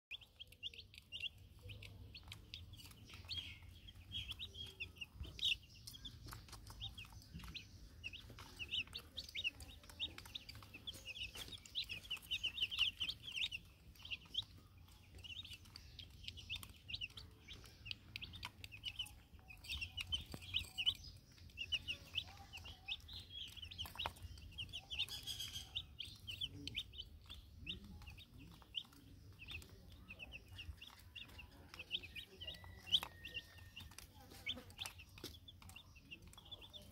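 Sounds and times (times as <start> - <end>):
chicks peeping: 0.1 - 36.9.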